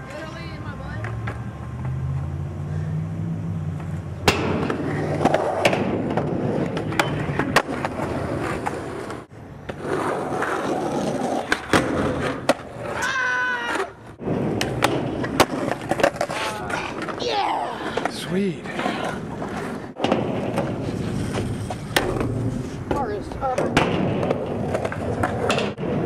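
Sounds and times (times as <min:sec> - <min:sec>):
skateboard wheels rolling on concrete: 0:00.0 - 0:26.0
skateboard clacking on ground: 0:03.8 - 0:26.0.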